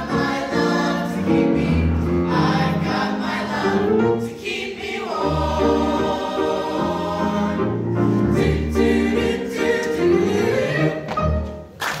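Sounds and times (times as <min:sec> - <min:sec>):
mixed choir singing: 0:00.0 - 0:11.1.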